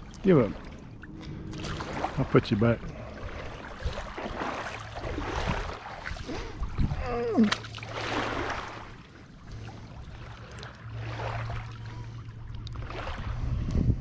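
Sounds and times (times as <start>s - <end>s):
fish splashing in water: 0.0s - 13.3s
steady low hum: 0.0s - 14.0s.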